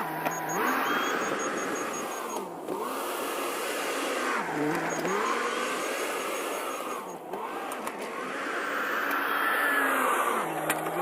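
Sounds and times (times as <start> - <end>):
backhoe diesel engine running: 0.0 - 11.0.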